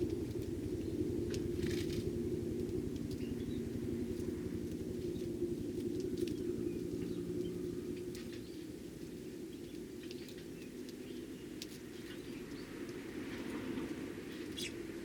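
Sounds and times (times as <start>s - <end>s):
sparrows chirping: 0.0s - 12.8s, 14.3s - 14.9s
steady low hum: 0.0s - 15.0s.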